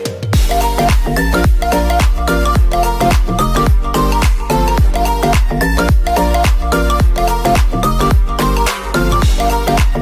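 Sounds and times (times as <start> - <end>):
upbeat instrumental dance music: 0.0 - 10.0.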